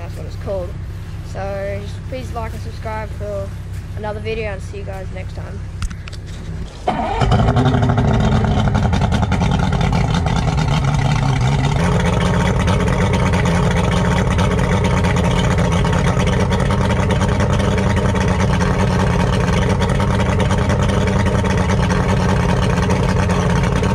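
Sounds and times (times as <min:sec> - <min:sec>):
outboard motor running: 0:00.0 - 0:23.9.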